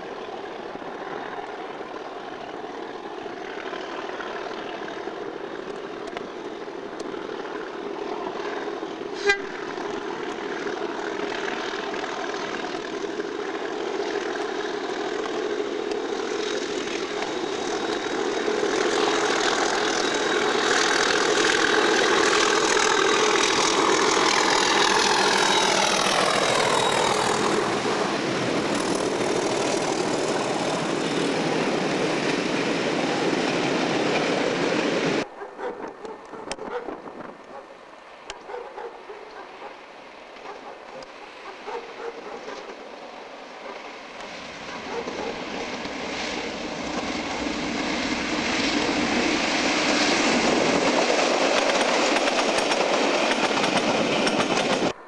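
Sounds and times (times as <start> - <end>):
diesel locomotive engine passing: 0.0 - 55.0.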